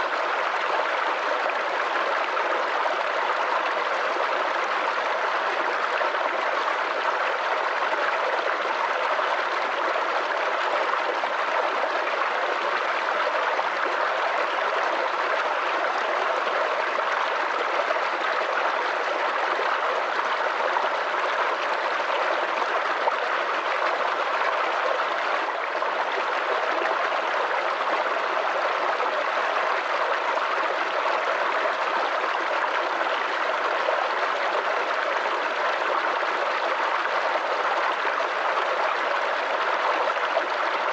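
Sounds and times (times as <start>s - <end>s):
creek babbling over stones: 0.0s - 40.9s.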